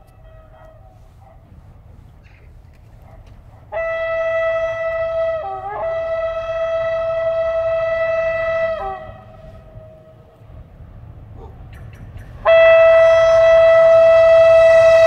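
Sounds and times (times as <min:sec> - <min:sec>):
locomotive horn blast: 0:00.0 - 0:02.6, 0:03.7 - 0:11.3, 0:12.2 - 0:15.0.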